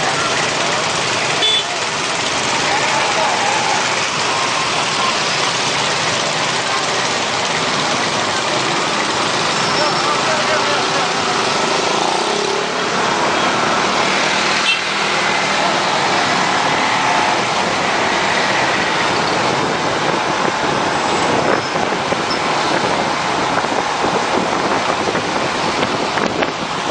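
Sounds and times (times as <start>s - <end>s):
motorbikes and cars in traffic: 0.0s - 26.9s.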